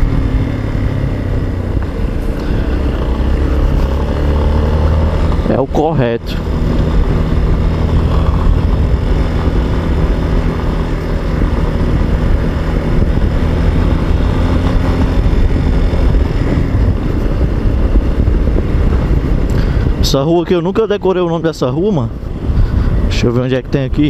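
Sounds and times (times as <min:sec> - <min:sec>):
motorcycle engine cruising: 0:00.0 - 0:24.0
tyres on wet road: 0:00.0 - 0:24.0
wind rumble on microphone: 0:00.0 - 0:24.0.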